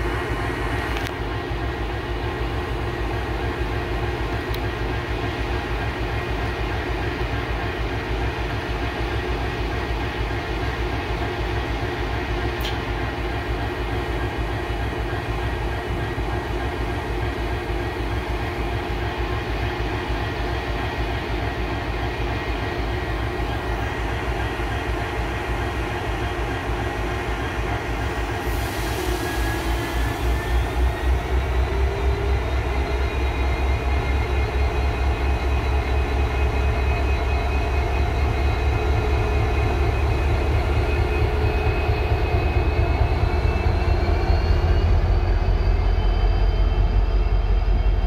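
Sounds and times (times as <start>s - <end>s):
engine drone with low rumble: 0.0s - 6.6s, 11.8s - 20.9s, 23.1s - 48.0s.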